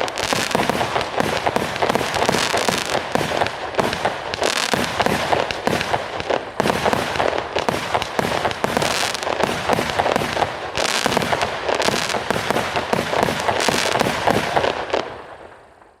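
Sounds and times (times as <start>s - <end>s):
crackling firework stars: 0.0s - 16.0s
fireworks launching and bursting: 0.0s - 16.0s.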